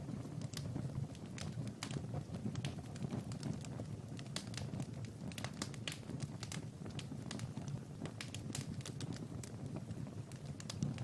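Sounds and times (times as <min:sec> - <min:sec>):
low rumble of flames: 0:00.0 - 0:11.0
wood fire pops and snaps: 0:00.0 - 0:11.0.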